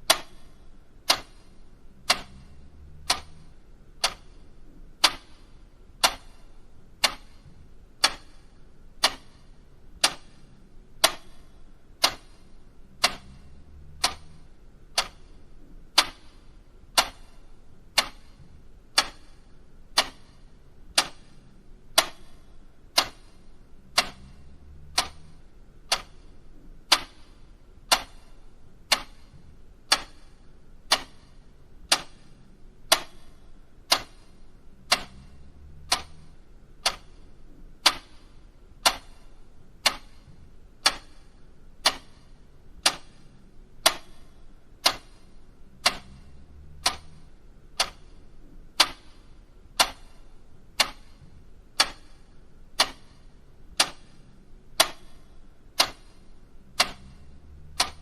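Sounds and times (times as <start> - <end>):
mechanical clock ticking: 0.0 - 58.0.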